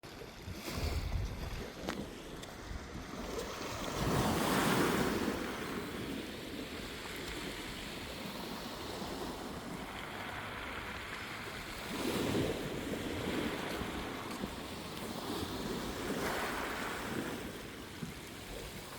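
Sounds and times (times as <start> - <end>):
sea waves washing and lapping: 0.0 - 18.9
wind buffeting the microphone: 0.4 - 18.9.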